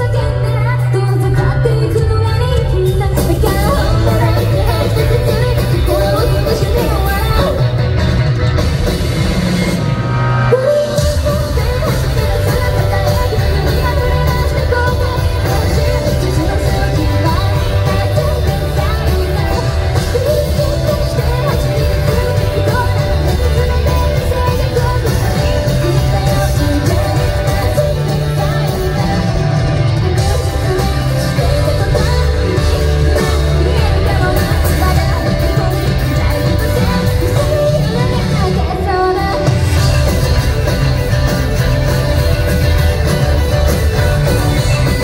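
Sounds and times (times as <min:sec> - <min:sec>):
woman singing: 0:00.0 - 0:08.1, 0:10.5 - 0:45.0
live rock band playing: 0:00.0 - 0:45.0.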